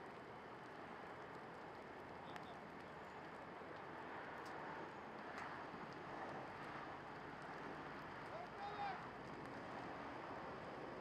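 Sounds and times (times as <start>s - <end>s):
fire crackling and popping: 0.0s - 11.0s.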